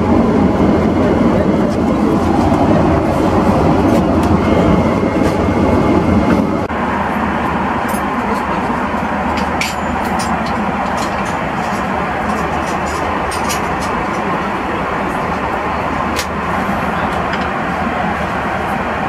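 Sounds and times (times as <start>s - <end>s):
airliner cabin engine roar: 0.0s - 19.0s.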